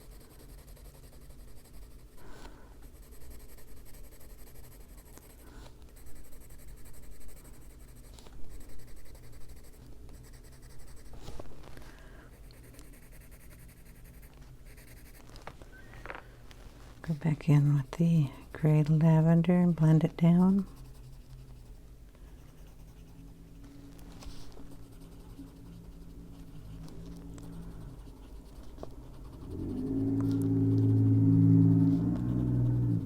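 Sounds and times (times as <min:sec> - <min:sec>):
colored pencil scratching paper: 0:00.0 - 0:11.6, 0:12.3 - 0:15.3, 0:18.6 - 0:33.0.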